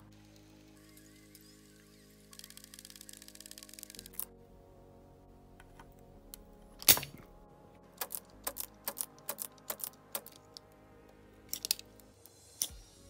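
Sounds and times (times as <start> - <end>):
quiet background music: 0.0 - 13.0.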